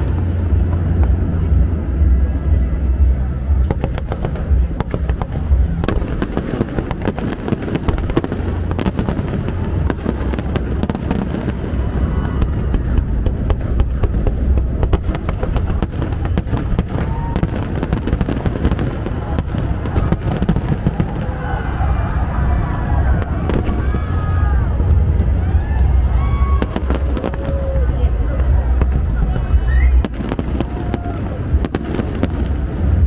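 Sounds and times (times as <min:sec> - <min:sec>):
fireworks bangs and crackling: 0:00.0 - 0:33.0
low rumble: 0:00.0 - 0:33.0.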